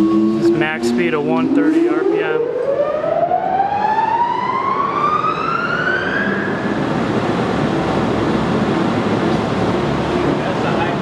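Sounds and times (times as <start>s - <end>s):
lathe spindle whine rising: 0.0s - 10.3s.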